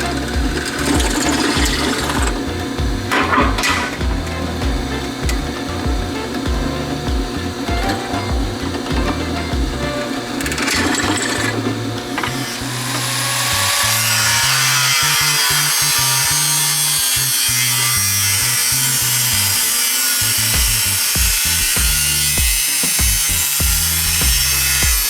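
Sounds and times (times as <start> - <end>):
background music: 0.0 - 25.0
power tool cutting wood: 0.0 - 25.0.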